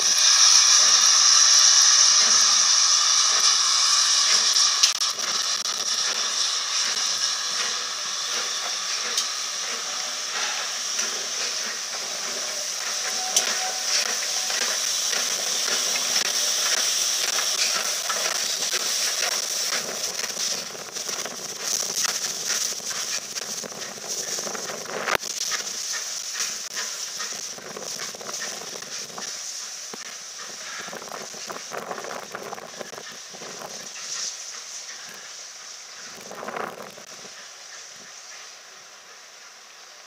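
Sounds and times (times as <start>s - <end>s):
steam hissing: 0.0s - 40.0s.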